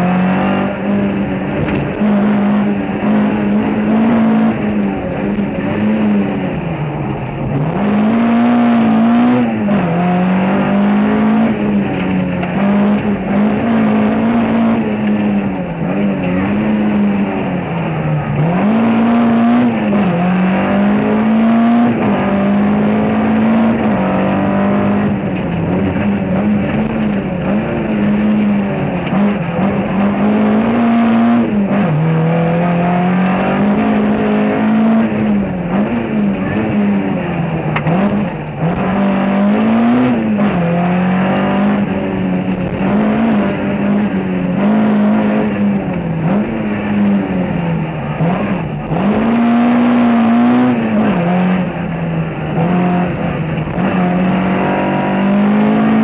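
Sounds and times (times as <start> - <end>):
rally car engine: 0.0 - 56.0
road and tyre noise: 0.0 - 56.0.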